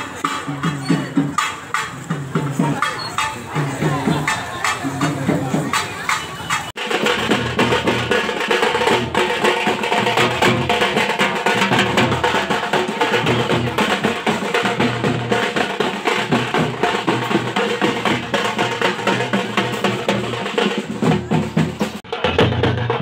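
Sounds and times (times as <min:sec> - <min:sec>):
loud music with fast drumming: 0:00.0 - 0:23.0.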